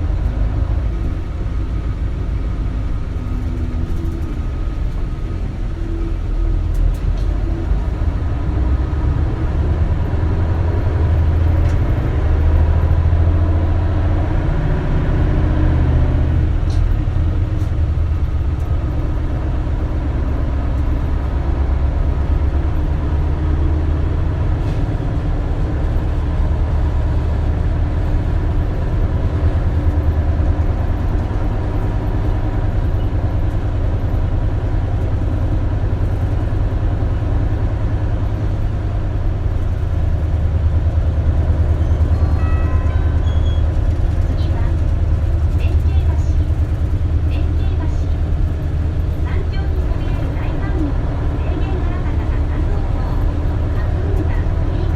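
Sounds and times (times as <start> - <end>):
bus diesel engine droning: 0.0 - 54.9
road noise: 0.0 - 54.9.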